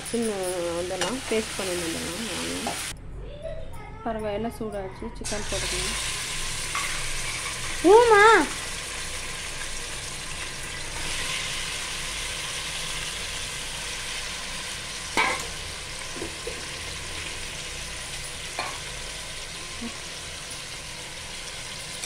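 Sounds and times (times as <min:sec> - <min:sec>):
chicken sizzling in hot oil: 0:00.8 - 0:02.9, 0:05.3 - 0:22.0.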